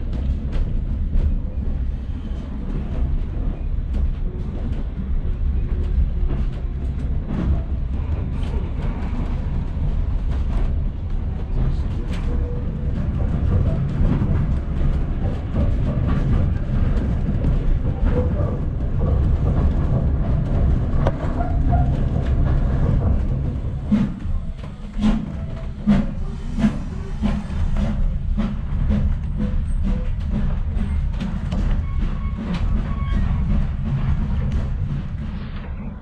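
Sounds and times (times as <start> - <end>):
train rumbling along track: 0.0 - 36.0.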